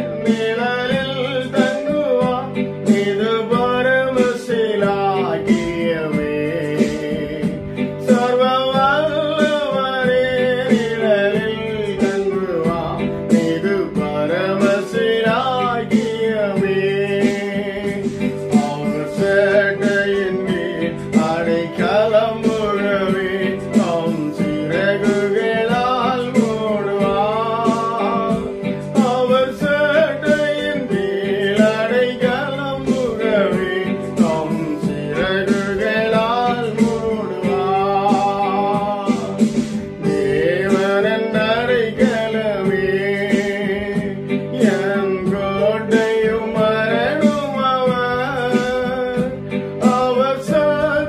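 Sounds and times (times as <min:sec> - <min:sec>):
instrumental backing with beat: 0:00.0 - 0:51.0
man singing: 0:00.0 - 0:51.0.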